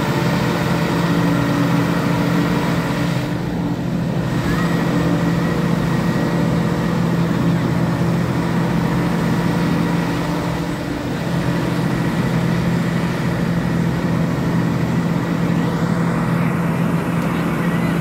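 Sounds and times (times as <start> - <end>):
telehandler engine running steadily: 0.0 - 18.0.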